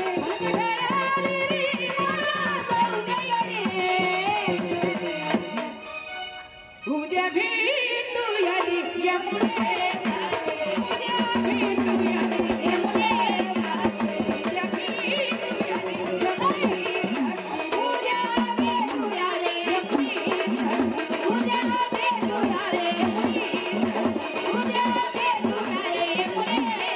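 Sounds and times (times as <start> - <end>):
fast hand-drum beat: 0.0 - 5.7, 9.3 - 26.9
woman singing: 0.0 - 5.9, 6.8 - 26.9.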